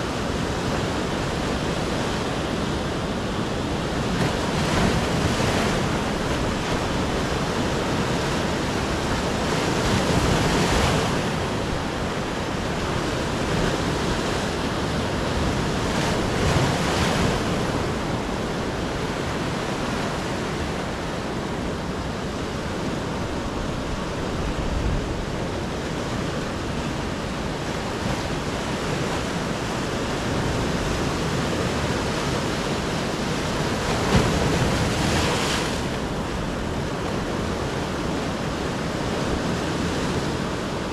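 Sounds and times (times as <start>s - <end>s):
sea surf breaking: 0.0s - 40.9s.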